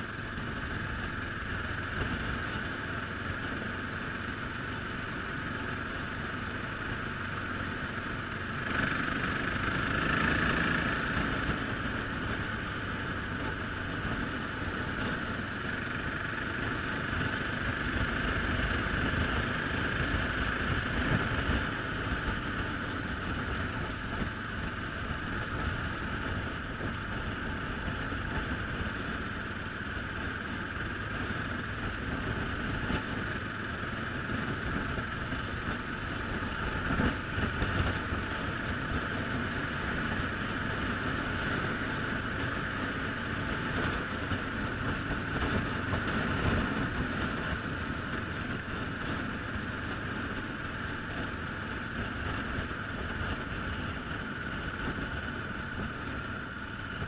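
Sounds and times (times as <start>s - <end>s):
motorcycle engine running: 0.0s - 57.0s
wind rush and road noise: 0.0s - 57.0s.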